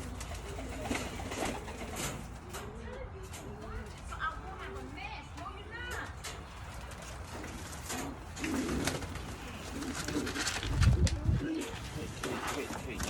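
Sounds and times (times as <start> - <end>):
pigeons cooing: 0.0 - 5.0, 6.3 - 13.0.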